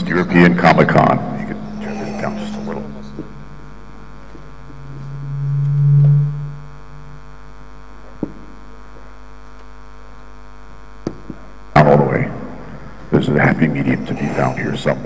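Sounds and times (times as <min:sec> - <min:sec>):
low hum tone: 0:00.0 - 0:15.0
sound system mains hum and buzz: 0:00.0 - 0:15.0.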